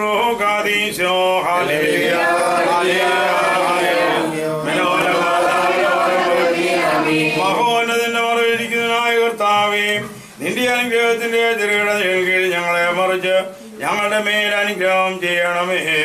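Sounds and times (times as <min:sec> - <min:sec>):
men chanting a hymn: 0:00.0 - 0:16.0.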